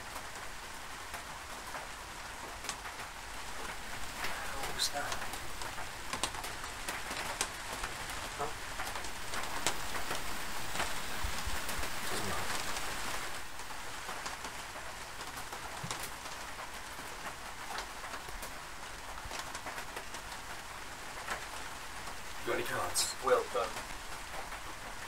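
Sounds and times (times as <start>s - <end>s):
steady rain pattering: 0.0s - 25.0s.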